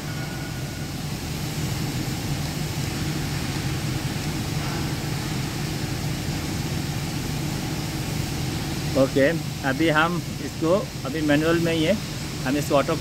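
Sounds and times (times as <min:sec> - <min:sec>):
machinery low hum: 0:00.0 - 0:13.0.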